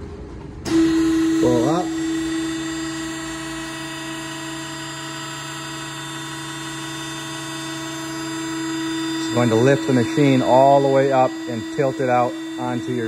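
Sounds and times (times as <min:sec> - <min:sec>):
hydraulic pump motor humming: 0:00.6 - 0:13.0.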